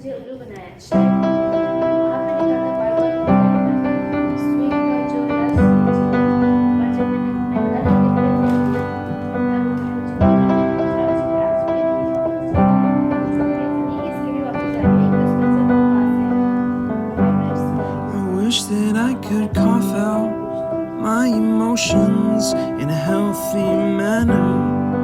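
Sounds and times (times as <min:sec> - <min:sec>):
pop song keyboard chords: 0:01.0 - 0:25.0.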